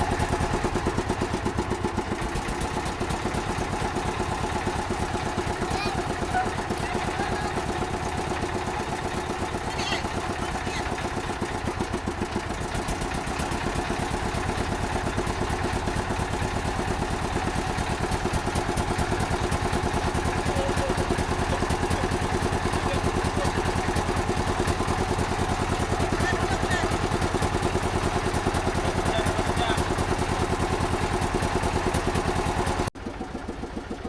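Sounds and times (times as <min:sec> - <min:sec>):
motorboat engine throbbing: 0:00.0 - 0:32.9.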